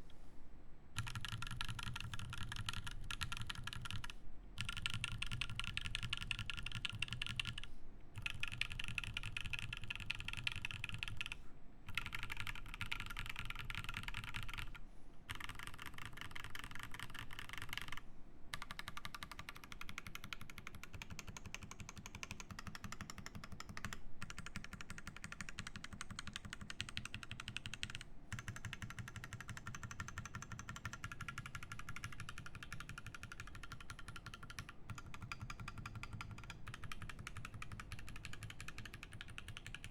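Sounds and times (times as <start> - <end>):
fast typing on mechanical keyboard: 1.0 - 39.9.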